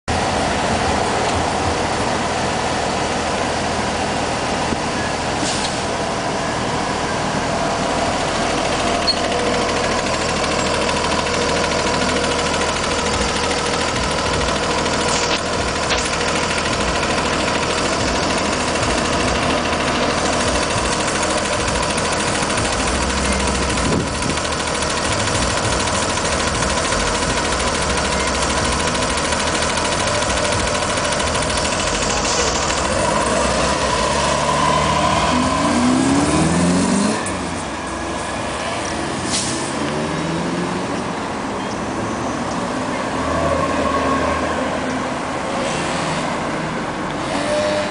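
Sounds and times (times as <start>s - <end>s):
bus engine idling: 0.1s - 43.2s.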